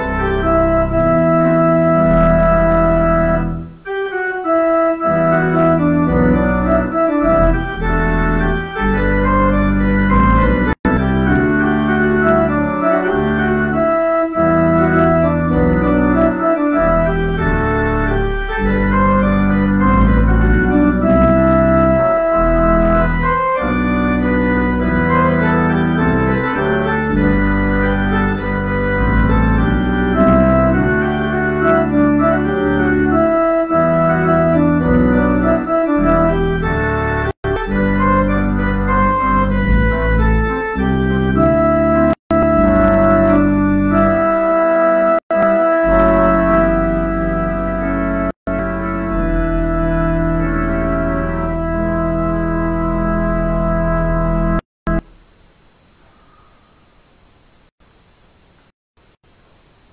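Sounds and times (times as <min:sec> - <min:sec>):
organ chords: 0:00.0 - 0:55.3.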